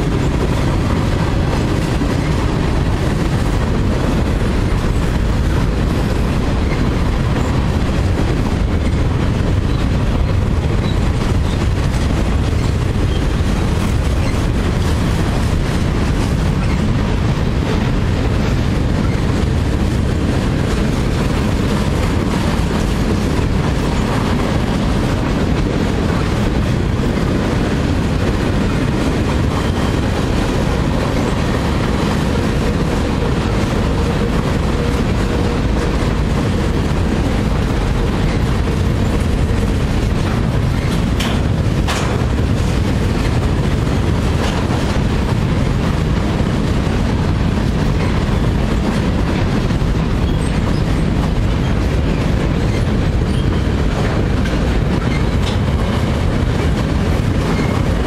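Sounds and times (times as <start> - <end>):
freight train rumbling over bridge: 0.0 - 58.0.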